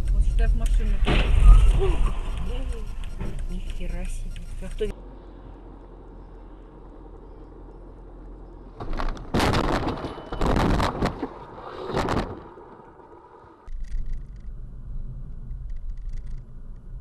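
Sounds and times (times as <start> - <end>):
car driving on road hum: 0.0 - 17.0.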